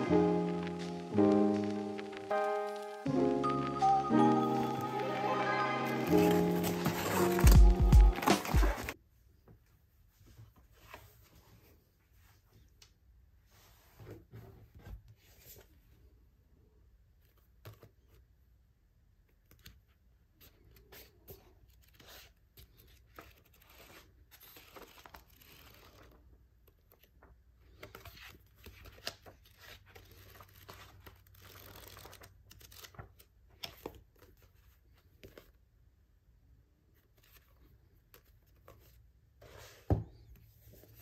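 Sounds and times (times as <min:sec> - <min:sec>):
book pages rustling and turning: 0:00.0 - 0:09.0, 0:10.1 - 0:12.8, 0:13.4 - 0:16.1, 0:17.2 - 0:18.4, 0:19.3 - 0:35.7, 0:36.9 - 0:41.0.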